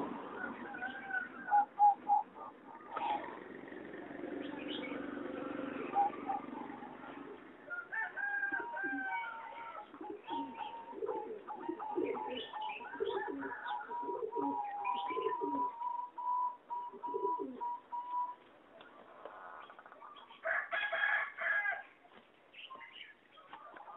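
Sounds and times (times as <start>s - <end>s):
dove cooing: 0.0s - 20.2s.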